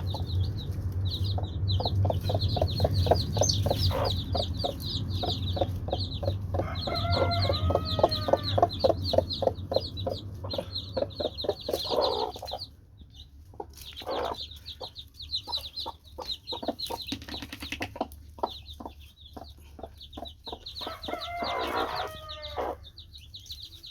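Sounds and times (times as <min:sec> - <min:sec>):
chicks peeping: 0:00.0 - 0:23.9
drawn-out chicken calls: 0:00.0 - 0:23.9
hen clucking: 0:00.0 - 0:23.9.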